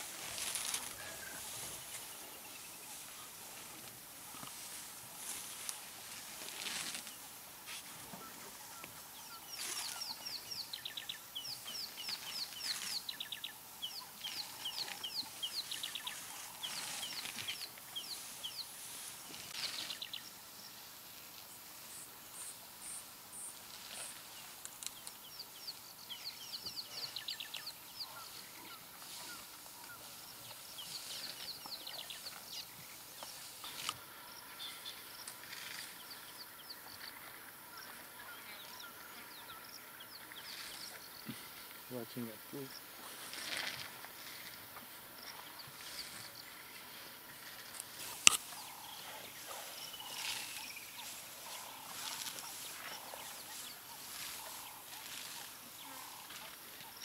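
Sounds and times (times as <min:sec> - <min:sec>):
wild birds calling: 0:00.0 - 0:57.0.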